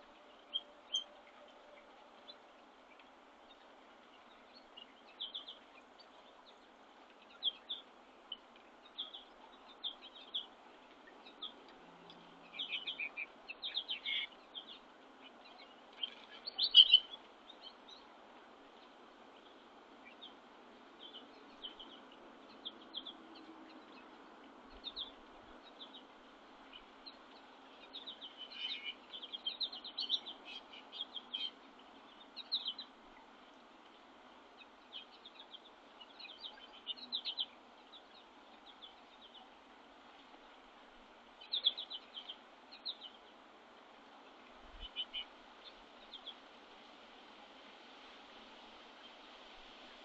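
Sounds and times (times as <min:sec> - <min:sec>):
faint outdoor hiss: 0:00.0 - 0:50.0
songbirds chirping: 0:00.0 - 0:50.0.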